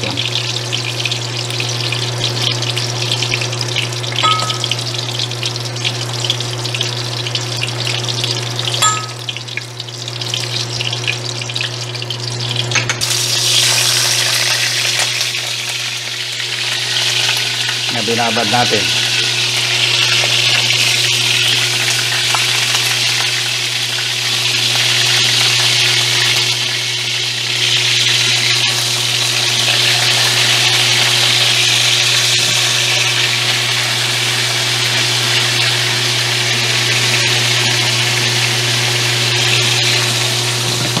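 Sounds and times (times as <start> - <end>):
chicken sizzling in hot oil: 0.0 - 41.0.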